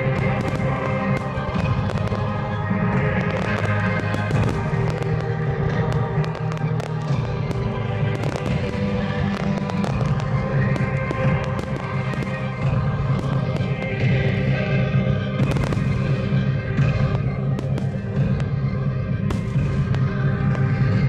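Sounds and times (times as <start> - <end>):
fireworks bursting and crackling: 0.0 - 21.0
music with sustained tones: 0.0 - 21.0.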